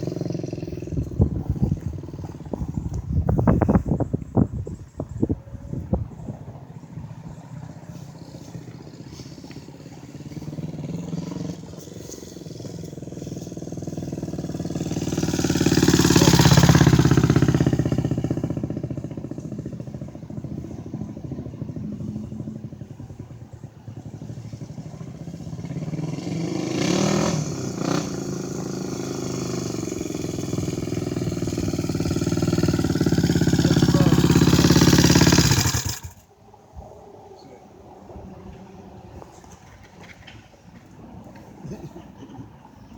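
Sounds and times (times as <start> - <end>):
vehicle engine running: 0.0 - 36.3.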